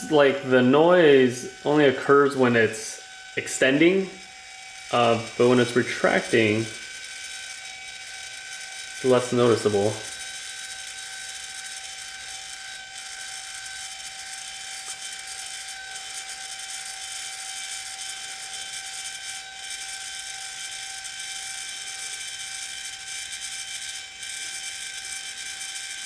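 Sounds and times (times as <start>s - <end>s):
linear actuator motor whine: 0.0s - 26.0s.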